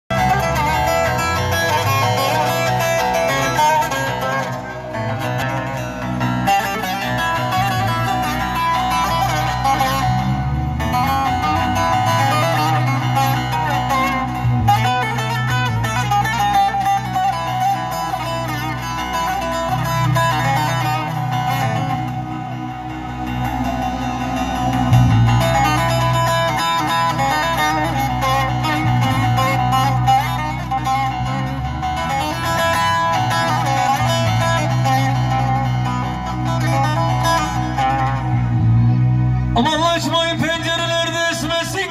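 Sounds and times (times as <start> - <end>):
sustained bass line: 0.0 - 41.9
plucked string melody: 0.1 - 41.4.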